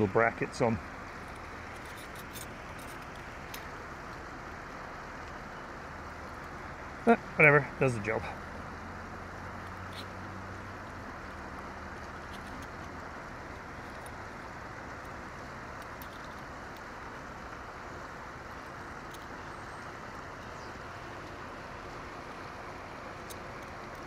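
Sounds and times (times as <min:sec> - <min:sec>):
river flowing over rocks: 0:00.0 - 0:24.0.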